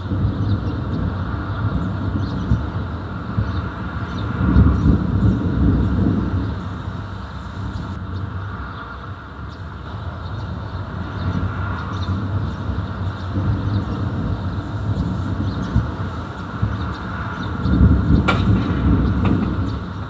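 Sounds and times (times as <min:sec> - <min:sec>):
distant thunder rumbling: 0:00.0 - 0:20.0.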